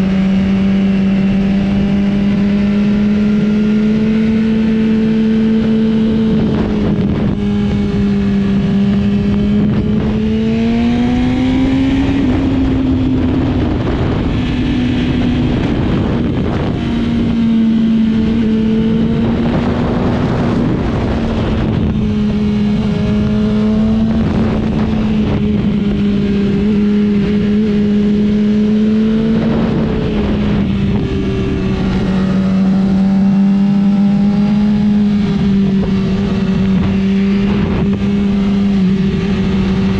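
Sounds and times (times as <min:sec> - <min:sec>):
motorcycle engine running hard: 0:00.0 - 0:39.9
wind noise on microphone: 0:00.0 - 0:39.9.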